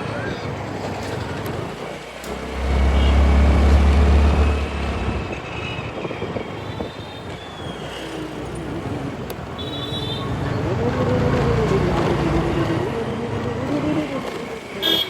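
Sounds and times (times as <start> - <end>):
scooter riding in traffic: 0.0 - 15.0.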